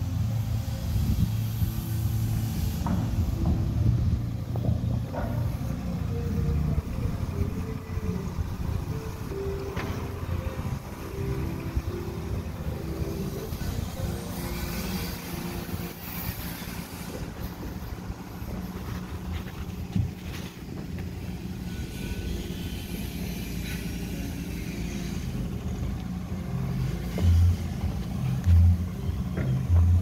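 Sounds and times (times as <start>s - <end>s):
engine low rumble: 0.0s - 30.0s.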